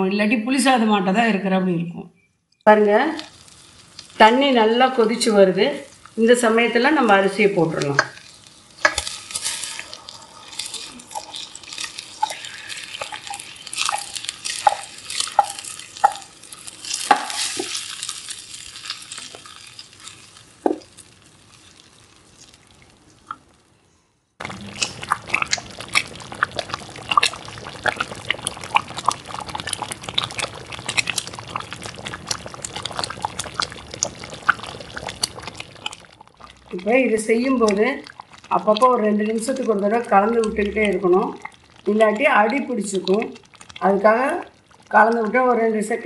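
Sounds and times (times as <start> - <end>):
rice poured into boiling water: 3.2 - 23.5, 24.4 - 46.0
water bubbling: 3.2 - 23.7, 24.4 - 46.0.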